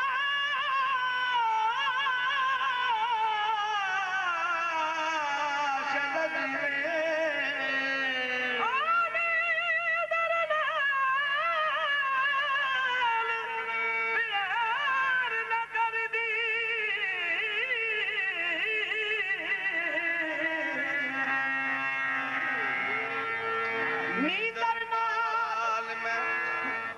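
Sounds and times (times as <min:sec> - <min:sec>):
man singing with vibrato: 0:00.0 - 0:26.9.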